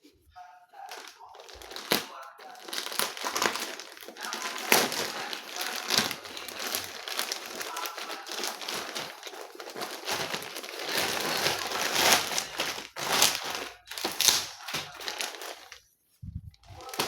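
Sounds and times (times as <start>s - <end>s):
packaging crinkling and rustling: 0.8s - 15.9s, 16.6s - 17.0s.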